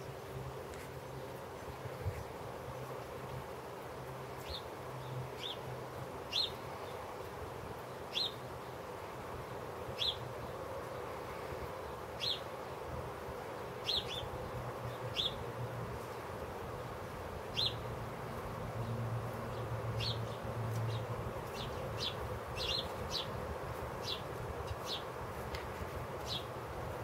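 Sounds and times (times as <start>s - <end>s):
steady low hum: 0.0s - 27.0s
sparrows chirping: 4.0s - 12.8s, 13.5s - 27.0s.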